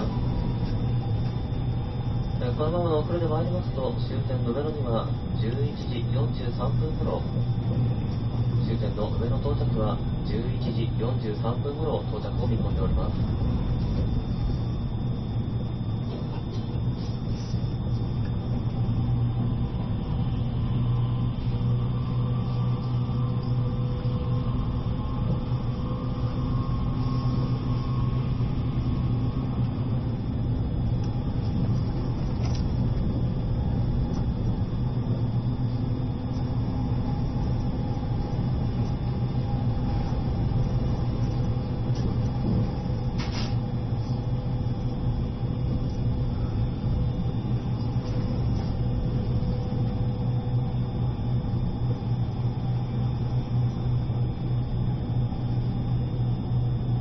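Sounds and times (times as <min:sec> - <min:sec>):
faint steady hums: 0:00.0 - 0:57.0
train cabin rumbling drone: 0:00.0 - 0:57.0.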